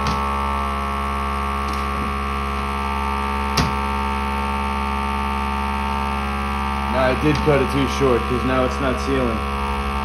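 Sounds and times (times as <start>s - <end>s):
vacuum pump humming: 0.0s - 10.0s.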